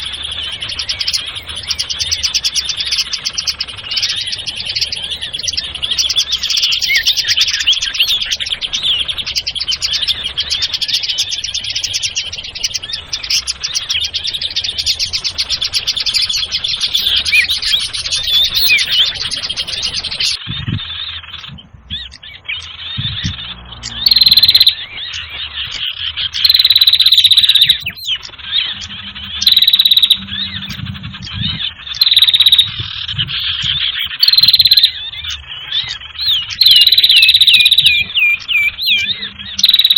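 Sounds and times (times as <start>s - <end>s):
low croaking sounds: 0.0s - 39.9s
small birds chirping and trilling: 0.0s - 39.9s.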